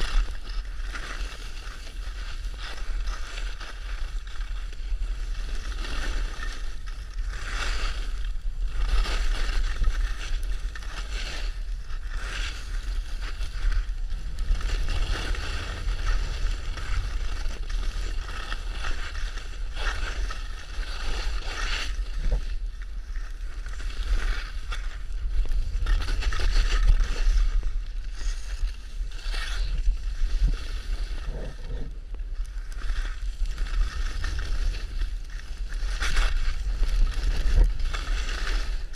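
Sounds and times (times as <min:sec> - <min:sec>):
skis scraping over snow: 0:00.0 - 0:38.9.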